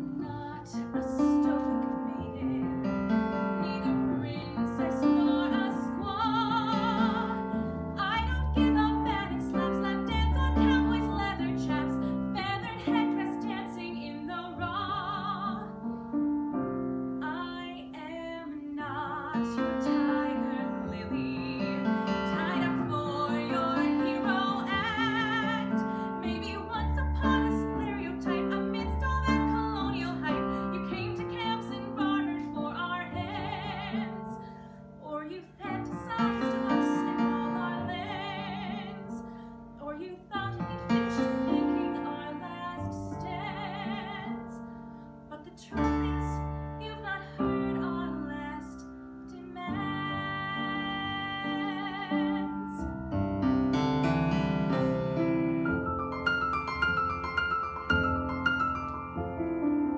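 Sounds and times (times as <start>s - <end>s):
woman singing: 0.0s - 16.2s, 17.2s - 52.9s
piano accompaniment: 0.0s - 59.9s.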